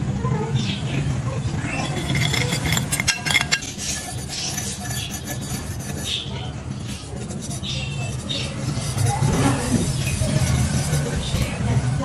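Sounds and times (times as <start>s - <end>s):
ceramic bowls clinking and scraping: 1.6s - 11.8s.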